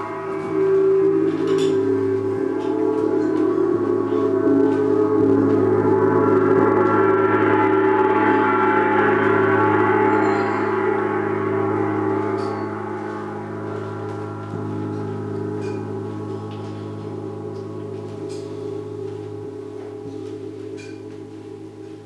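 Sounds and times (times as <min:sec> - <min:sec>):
large gong ringing: 0:00.0 - 0:22.0.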